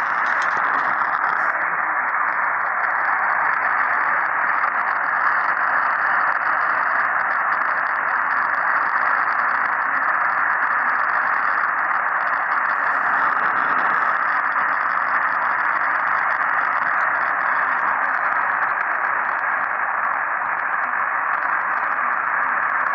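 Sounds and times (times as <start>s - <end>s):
radio static hiss: 0.0s - 22.9s.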